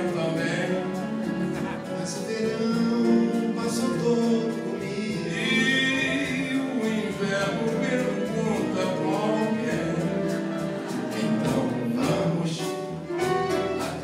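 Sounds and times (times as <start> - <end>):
lead singer singing: 0.0 - 14.0
live band playing: 0.0 - 14.0.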